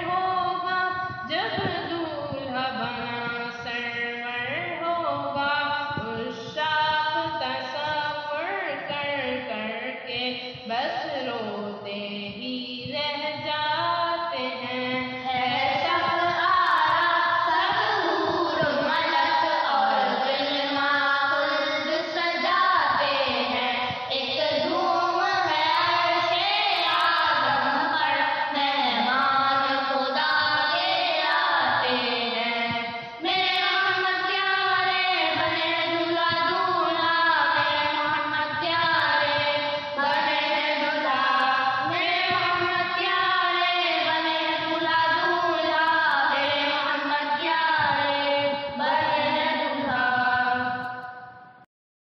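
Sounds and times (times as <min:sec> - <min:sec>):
voices singing devotional chant: 0:00.0 - 0:51.3.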